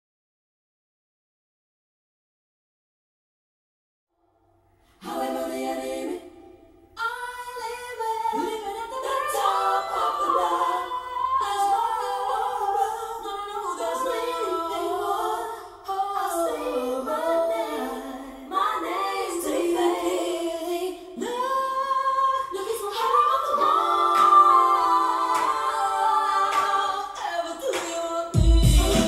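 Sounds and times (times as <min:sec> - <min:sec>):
a cappella voices singing in harmony: 0:04.8 - 0:29.0.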